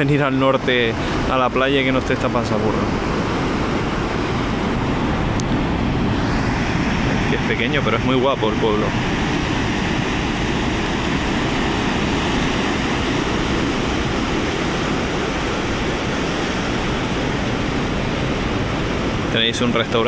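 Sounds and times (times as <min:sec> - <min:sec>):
sea surf breaking on boulders: 0:00.0 - 0:20.0.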